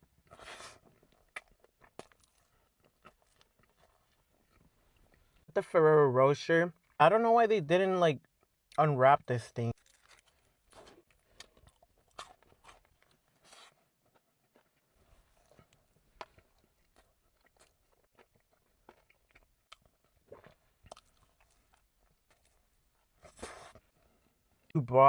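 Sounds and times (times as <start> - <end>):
chewing and crunching: 0.0 - 5.5, 9.7 - 24.8.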